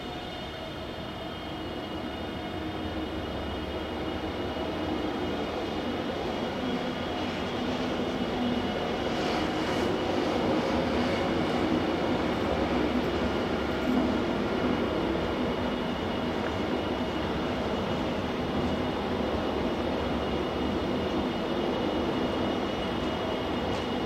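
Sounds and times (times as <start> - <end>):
metro train approaching: 0.0 - 24.0
steady high whine: 0.0 - 24.0.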